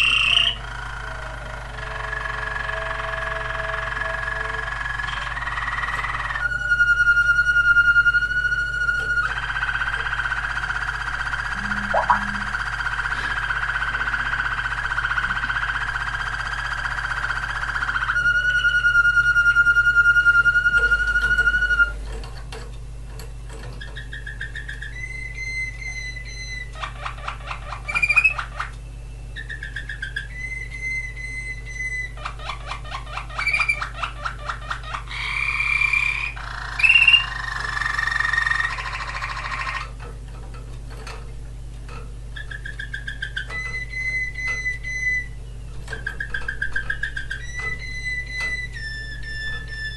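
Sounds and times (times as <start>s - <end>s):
canary singing: 0.0s - 1.0s, 1.6s - 22.0s, 23.8s - 40.0s, 42.3s - 49.9s.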